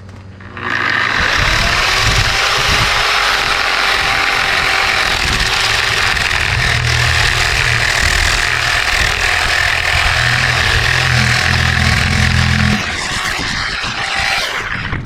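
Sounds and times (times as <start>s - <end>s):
power sander on metal: 0.4s - 15.0s.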